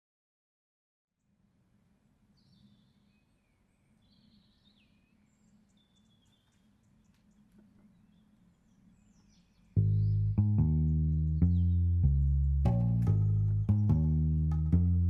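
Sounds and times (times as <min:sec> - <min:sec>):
birds chirping: 0:02.3 - 0:14.9.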